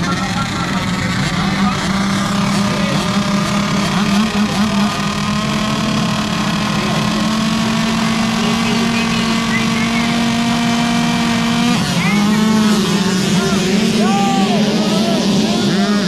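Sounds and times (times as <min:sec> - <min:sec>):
engines revving up and down: 0:00.0 - 0:16.0
motocross engines droning: 0:00.0 - 0:16.0.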